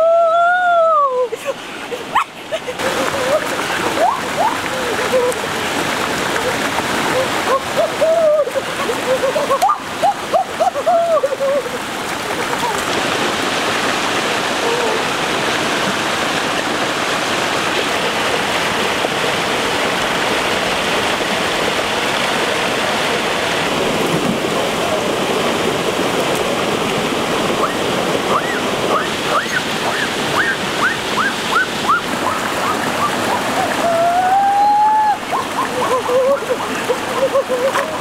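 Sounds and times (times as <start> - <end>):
creek running over rocks: 0.0 - 38.0.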